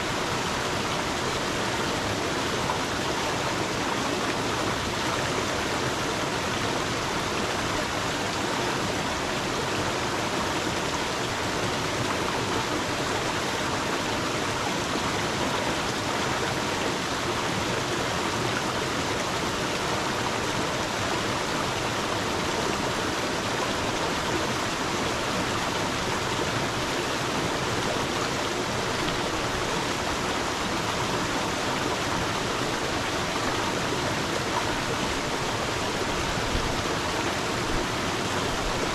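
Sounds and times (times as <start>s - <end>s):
stream splashing over stones: 0.0s - 38.9s.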